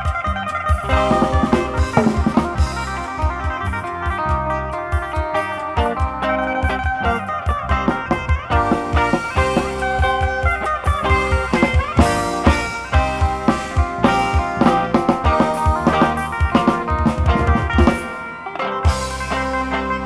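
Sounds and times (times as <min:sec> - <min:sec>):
drum kit: 0:00.0 - 0:20.0.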